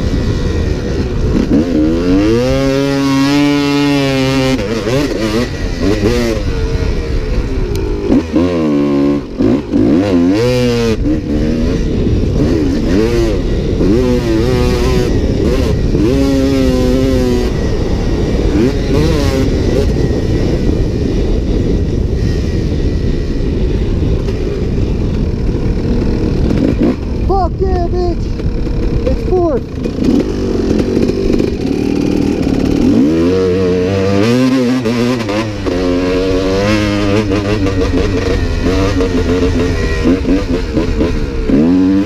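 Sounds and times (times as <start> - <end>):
dirt bike engine revving: 0.0 - 42.0
steady rush of noise: 0.0 - 42.0.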